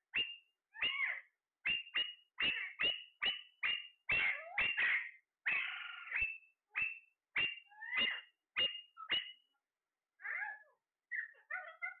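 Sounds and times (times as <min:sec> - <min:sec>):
parakeets squawking: 0:00.8 - 0:01.2, 0:01.8 - 0:09.4, 0:10.2 - 0:12.0.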